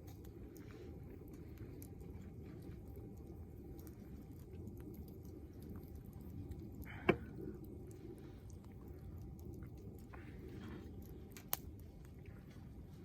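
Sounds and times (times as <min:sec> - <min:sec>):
campfire crackling: 0:00.0 - 0:13.0
low fire rumble: 0:00.0 - 0:13.0.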